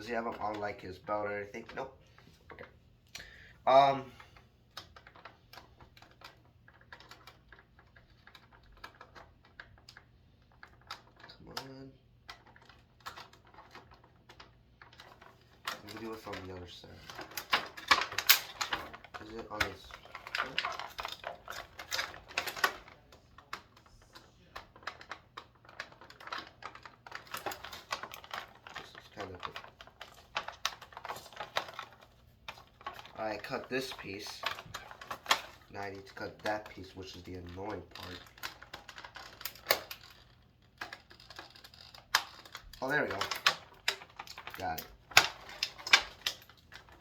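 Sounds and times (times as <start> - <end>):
plastic blister tray crackling: 3.7 - 47.0.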